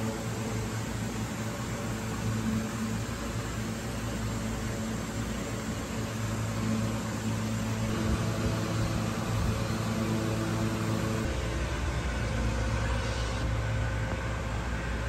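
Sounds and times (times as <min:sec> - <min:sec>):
pumps humming and hissing: 0:00.0 - 0:15.0.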